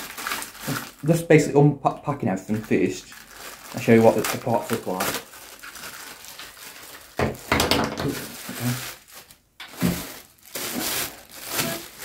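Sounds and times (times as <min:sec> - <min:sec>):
plastic bags crinkling: 0:00.0 - 0:01.4, 0:02.4 - 0:12.0.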